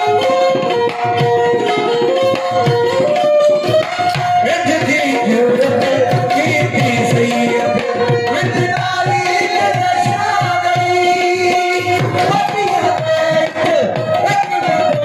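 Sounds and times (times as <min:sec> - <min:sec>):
hand drum beat: 0:00.0 - 0:15.0.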